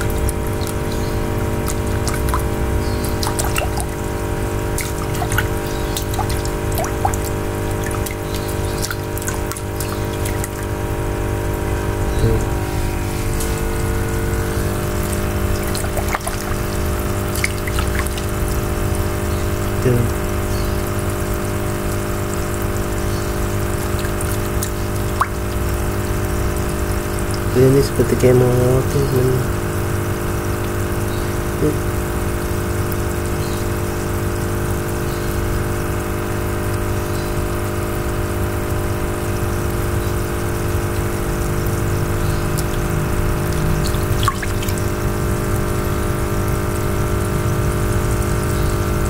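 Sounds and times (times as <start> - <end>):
steady hum: 0.0 - 49.0
water splashing in a tank: 0.0 - 49.0.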